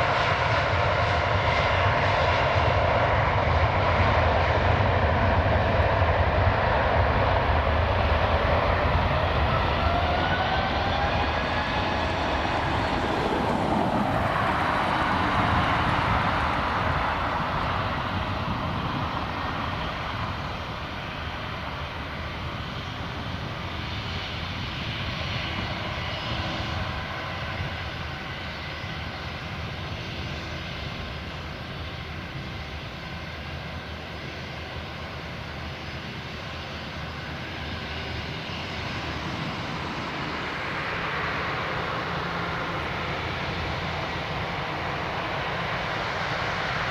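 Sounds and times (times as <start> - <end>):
jet engines: 0.0 - 46.9.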